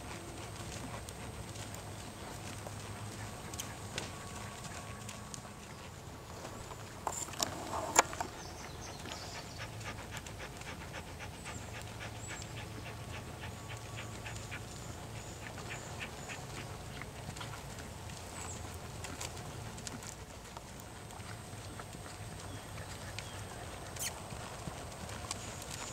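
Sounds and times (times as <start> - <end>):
horse hooves trotting on sand: 0.0 - 25.9.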